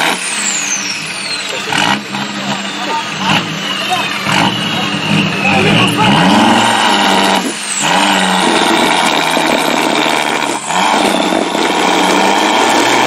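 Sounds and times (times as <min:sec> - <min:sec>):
off-road vehicle engines revving: 0:00.0 - 0:13.0.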